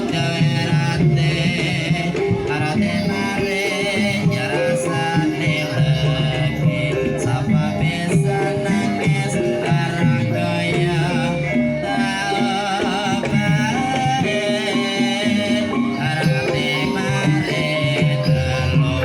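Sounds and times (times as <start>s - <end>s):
gamelan music: 0.0s - 19.0s
person singing wavering melody: 0.0s - 19.0s.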